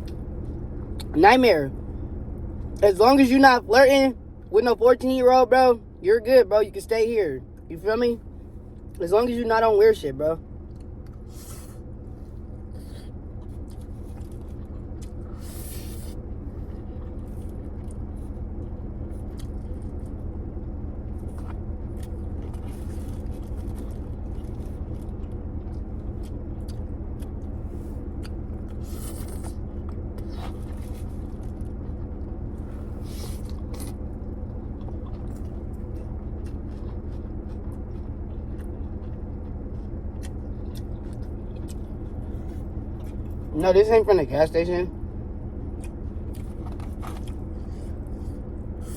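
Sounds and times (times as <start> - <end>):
crunching and chewing: 0.0 - 1.2, 9.9 - 48.9
steady low hum: 0.0 - 48.9.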